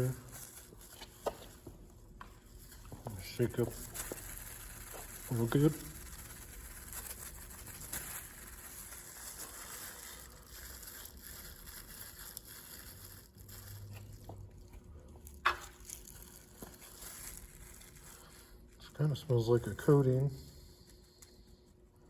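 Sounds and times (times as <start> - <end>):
faint rustling and handling: 0.0 - 22.0.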